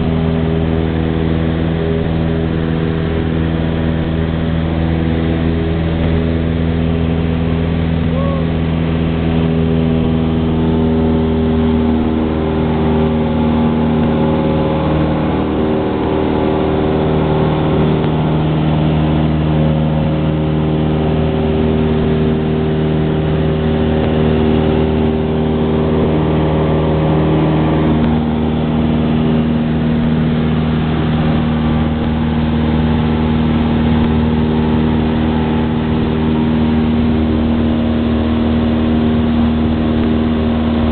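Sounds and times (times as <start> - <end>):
airplane engine droning: 0.0 - 40.9.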